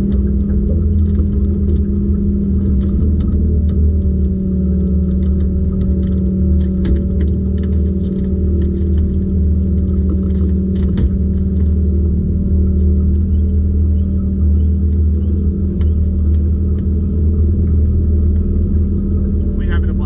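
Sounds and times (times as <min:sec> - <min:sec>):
gear clicking in metal boat: 0:00.0 - 0:19.4
boat motor humming: 0:00.0 - 0:20.0.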